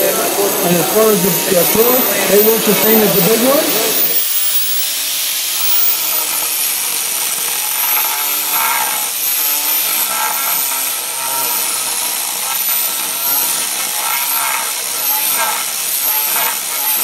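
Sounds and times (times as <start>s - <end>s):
angle grinder whine: 0.0s - 17.0s
carving disc rasping wood: 0.0s - 17.0s.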